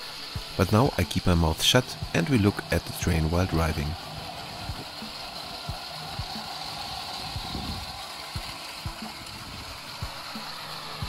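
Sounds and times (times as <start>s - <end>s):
toy train motor whirring: 0.0s - 11.0s
wheels clicking over track joints: 0.5s - 11.0s.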